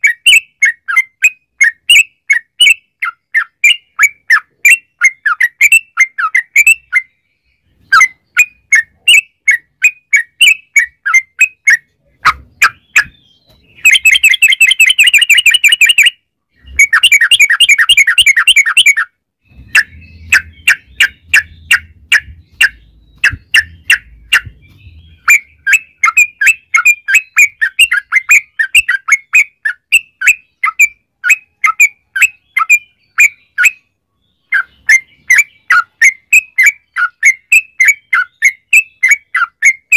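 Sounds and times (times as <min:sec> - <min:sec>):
bird bubbling chirps: 0:01.6 - 0:33.7.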